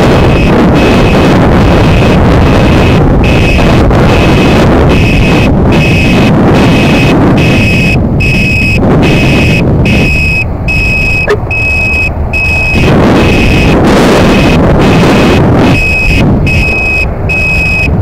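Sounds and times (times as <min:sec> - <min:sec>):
wind buffeting on microphone: 0:00.0 - 0:18.0
high electronic beeping: 0:03.2 - 0:18.0.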